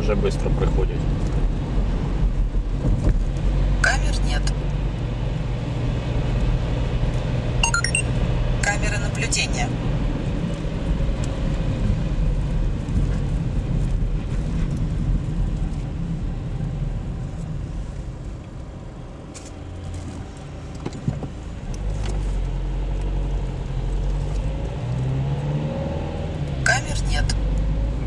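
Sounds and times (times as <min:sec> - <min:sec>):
car engine and tyre rumble: 0:00.0 - 0:07.6, 0:08.2 - 0:28.0.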